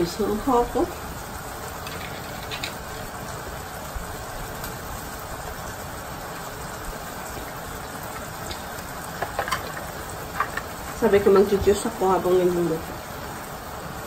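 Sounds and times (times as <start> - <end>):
chicken simmering in pan bubbling: 0.4 - 14.0.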